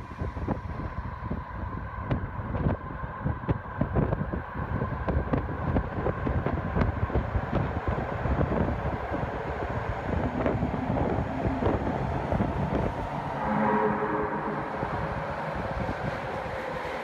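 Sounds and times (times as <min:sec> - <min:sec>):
low train rumble: 0:00.0 - 0:17.0
strong wind buffeting microphone: 0:00.0 - 0:17.0.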